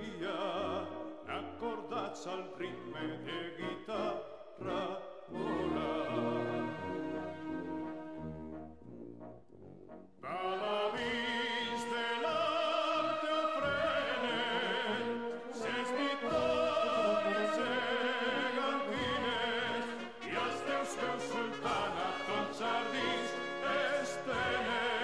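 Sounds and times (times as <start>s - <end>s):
operatic singing: 0.0s - 8.2s, 10.2s - 25.0s
orchestral accompaniment: 0.2s - 25.0s.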